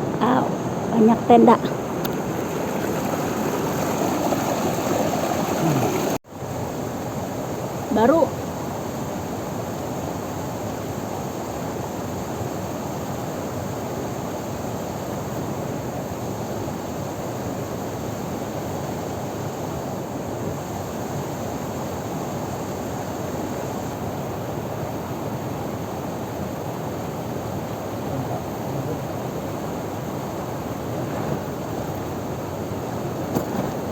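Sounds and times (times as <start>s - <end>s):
river and small waterfall rushing: 0.0s - 33.9s.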